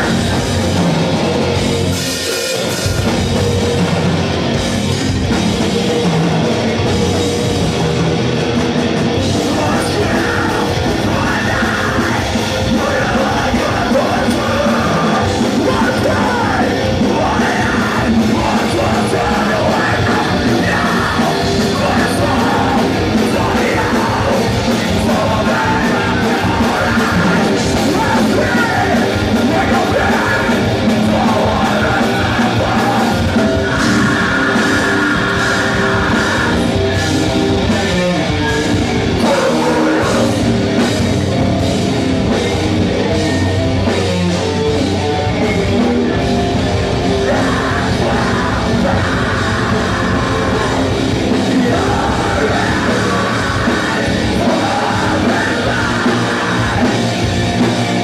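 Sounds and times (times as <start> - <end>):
distorted guitars: 0.0 - 58.0
drums: 0.0 - 58.0
yelled vocals: 0.0 - 58.0.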